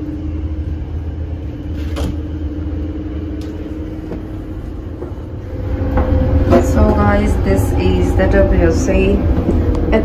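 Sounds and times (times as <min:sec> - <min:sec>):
constant hum: 0:00.0 - 0:10.0
train rumble from inside carriage: 0:00.0 - 0:10.0.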